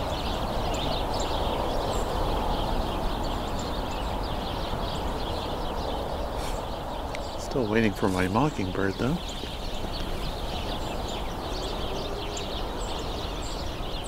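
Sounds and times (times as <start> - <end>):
flock of small birds chirping: 0.0 - 14.0.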